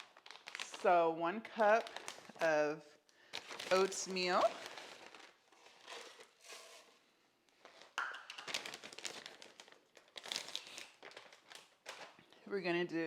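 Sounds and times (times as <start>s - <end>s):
bag crinkling and rustling: 0.0s - 0.9s, 1.5s - 2.6s, 3.3s - 12.4s.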